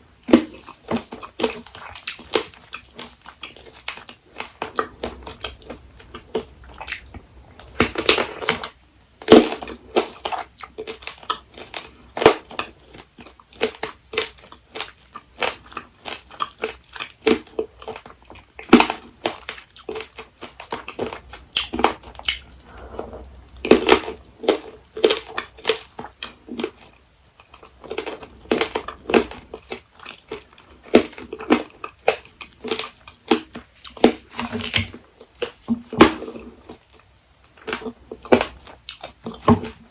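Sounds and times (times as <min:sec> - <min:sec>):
crunching candied fruit: 0:00.1 - 0:39.9.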